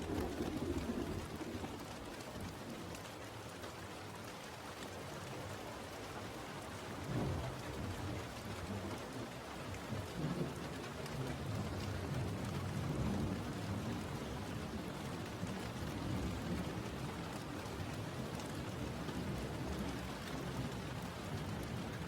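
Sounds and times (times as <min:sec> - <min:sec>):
low rumble of thunder: 0:00.0 - 0:02.9, 0:06.9 - 0:22.0
steady rain falling: 0:00.0 - 0:22.0.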